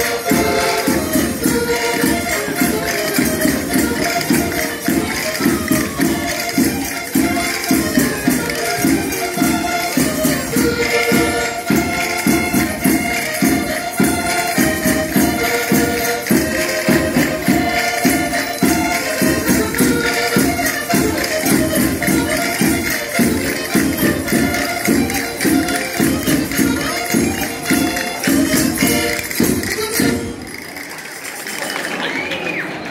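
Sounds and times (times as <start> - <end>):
button accordion melody: 0.0 - 30.9
tambourines shaking: 0.0 - 32.0
fast folk beat: 0.0 - 32.9.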